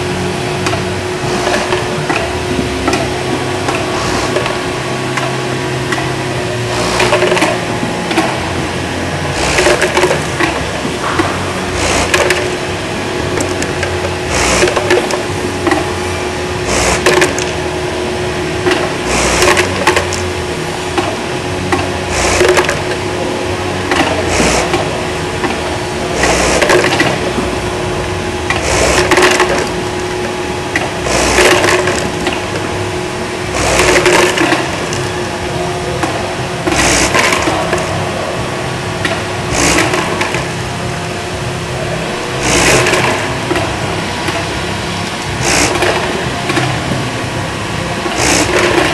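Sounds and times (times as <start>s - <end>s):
motor hum: 0.0s - 48.9s.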